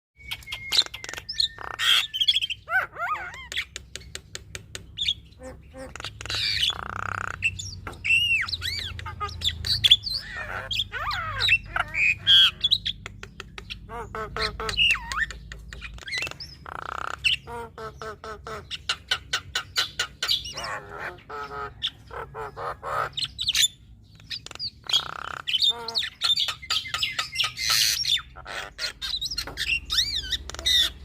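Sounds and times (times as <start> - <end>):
bird squawks: 0.3 - 3.8, 5.0 - 31.0.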